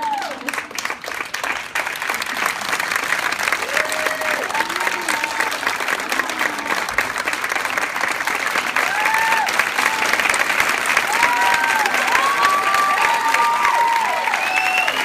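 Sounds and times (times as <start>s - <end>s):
audience clapping: 0.0s - 15.0s.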